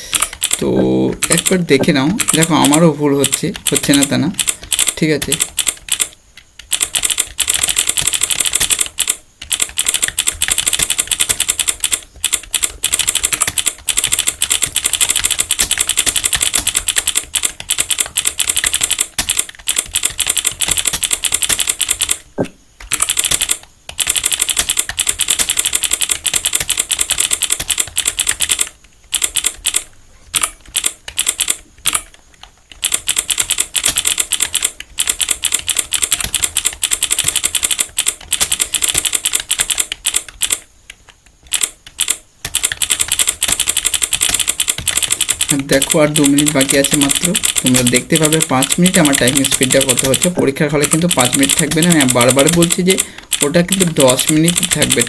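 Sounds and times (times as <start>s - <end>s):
typing on computer keyboard: 0.0s - 55.0s.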